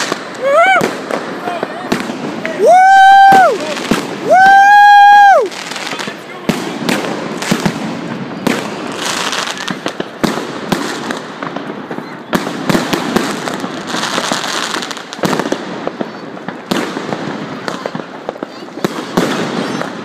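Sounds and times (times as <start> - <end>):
fireworks bangs and pops: 0.0 - 20.0
fireworks crackle: 0.0 - 20.0
fireworks hissing: 0.0 - 20.0.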